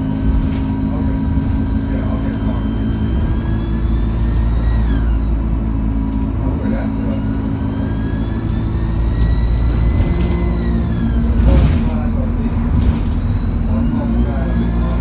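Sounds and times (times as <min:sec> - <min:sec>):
bus diesel engine accelerating: 0:00.0 - 0:15.0
turbo whine: 0:00.0 - 0:15.0.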